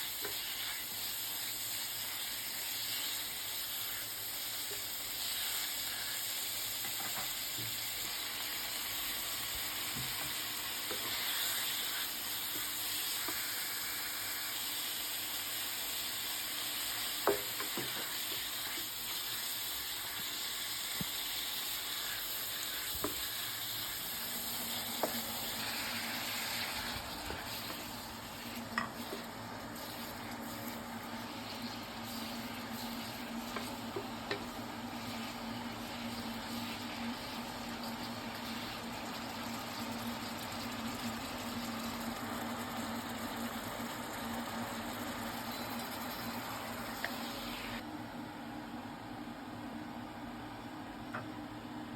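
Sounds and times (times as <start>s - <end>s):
food sizzling in a pan: 0.0s - 47.8s.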